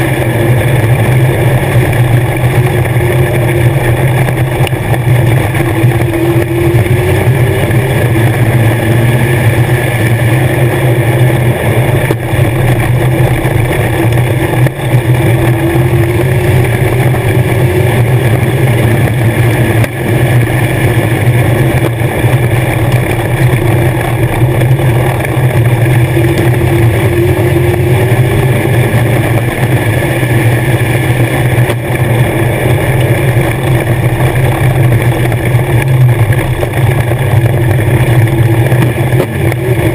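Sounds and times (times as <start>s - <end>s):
engine running at high revs: 0.0s - 39.9s.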